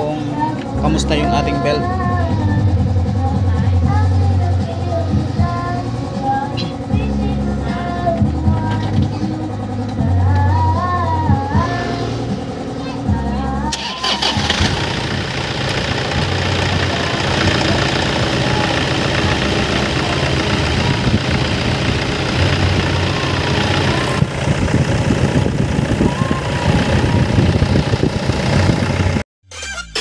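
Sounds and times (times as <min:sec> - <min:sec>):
diesel engine idling: 0:00.0 - 0:29.2.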